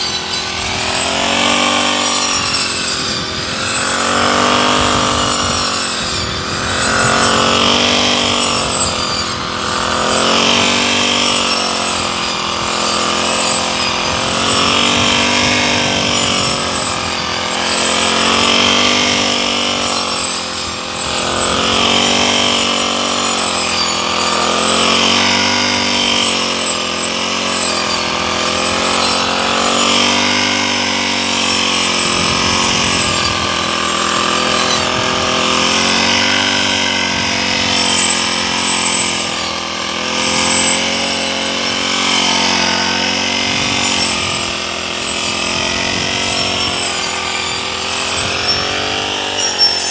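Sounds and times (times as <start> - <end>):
brush cutter cutting grass: 0.0 - 49.9.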